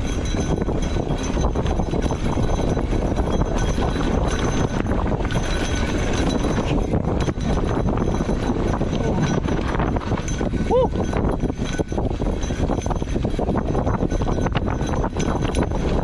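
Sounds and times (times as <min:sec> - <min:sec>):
bike knocks and rattles: 0:00.0 - 0:16.0
bike tyre noise on dirt: 0:00.0 - 0:16.0
wind rumbling on microphone: 0:00.0 - 0:16.0.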